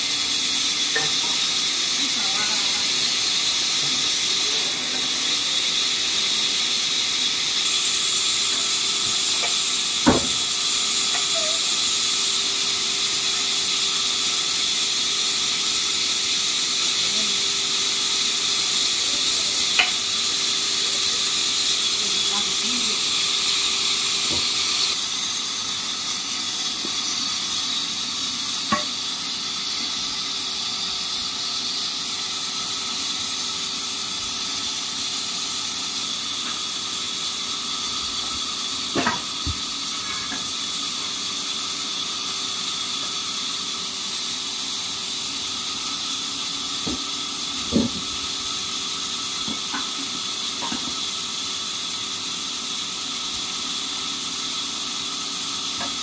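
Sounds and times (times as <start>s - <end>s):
sawmill machinery hum: 0.0s - 56.0s.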